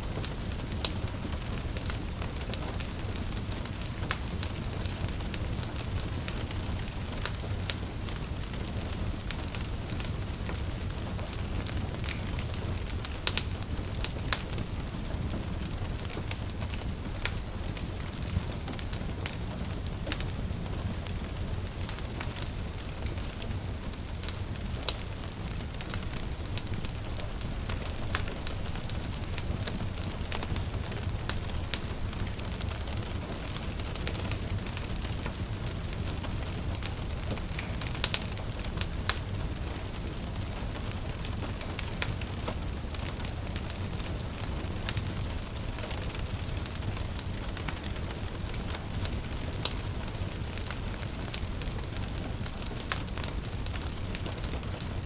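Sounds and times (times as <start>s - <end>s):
gentle rain patter: 0.0s - 55.0s
wood fire crackling and popping: 0.0s - 55.0s.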